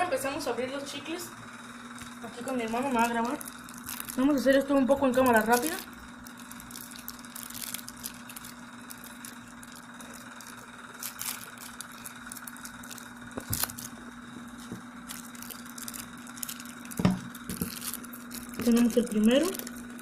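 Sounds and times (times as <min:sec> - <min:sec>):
wrapper snap: 0:01.9 - 0:20.0
wrappers rustling and crinkling: 0:02.0 - 0:20.0.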